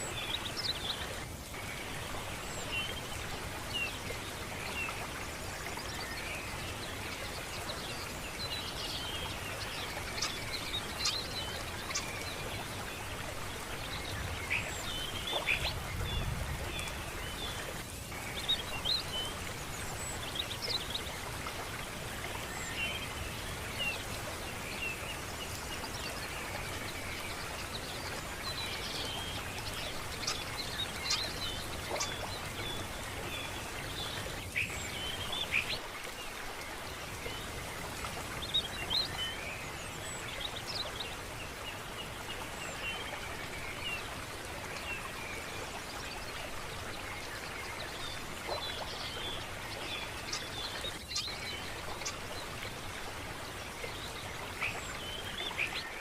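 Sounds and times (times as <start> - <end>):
water flowing: 0.0 - 56.0.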